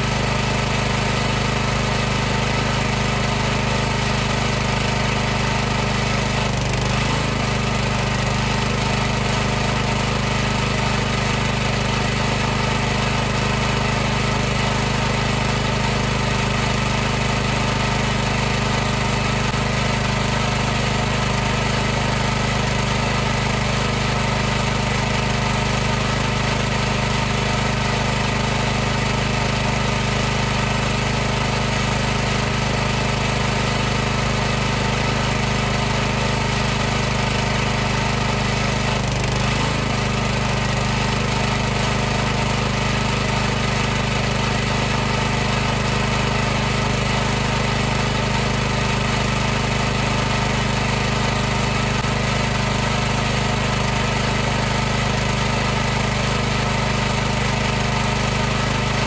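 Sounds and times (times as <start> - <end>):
pressure washer running: 0.0 - 59.0.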